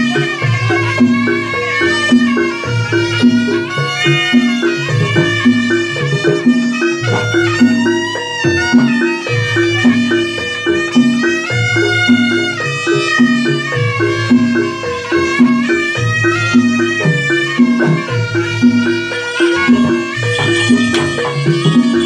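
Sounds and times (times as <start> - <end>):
held melody line: 0.0 - 22.0
percussion beat: 0.0 - 22.0.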